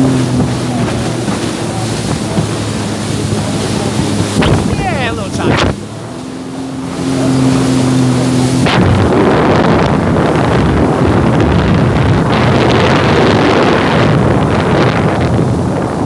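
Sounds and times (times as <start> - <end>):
rushing wind and water spray: 0.0 - 16.0
watercraft engine: 0.0 - 16.0
wind hitting microphone: 0.0 - 16.0.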